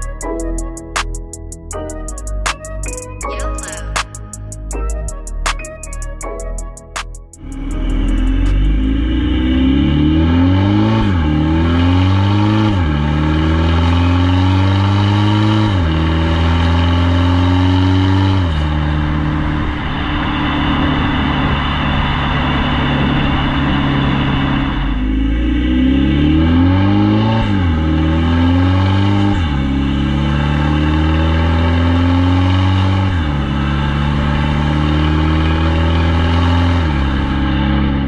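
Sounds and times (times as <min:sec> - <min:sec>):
diesel car engine accelerating: 0:00.0 - 0:03.1, 0:07.2 - 0:38.0.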